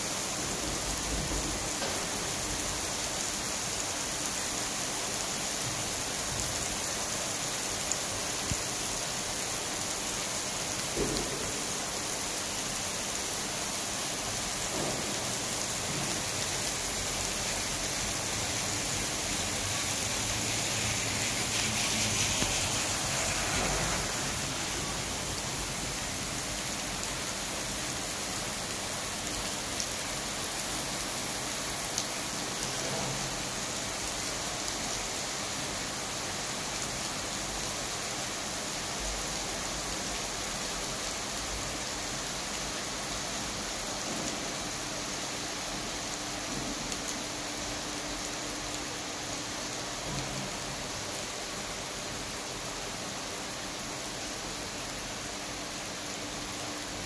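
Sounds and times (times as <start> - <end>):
rain on asphalt road: 0.0 - 57.0.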